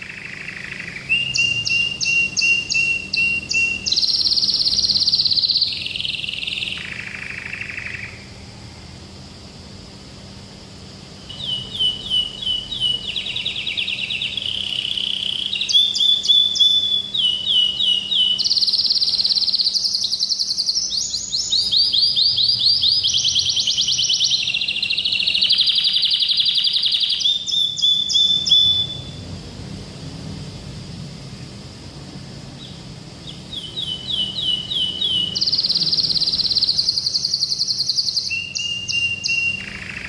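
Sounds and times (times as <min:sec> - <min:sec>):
canary singing trills: 0:00.0 - 0:08.5, 0:10.5 - 0:29.4, 0:32.4 - 0:40.0.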